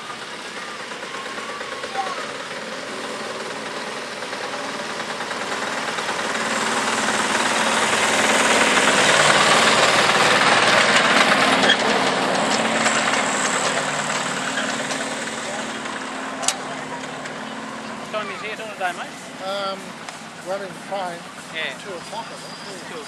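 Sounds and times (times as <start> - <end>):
small locomotive engine: 0.0 - 23.0
train wheels on rails: 0.0 - 23.0.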